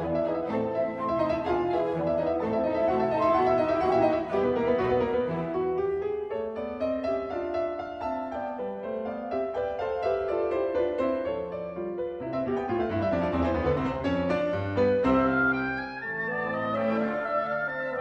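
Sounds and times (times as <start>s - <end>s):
piano playing: 0.0s - 18.0s.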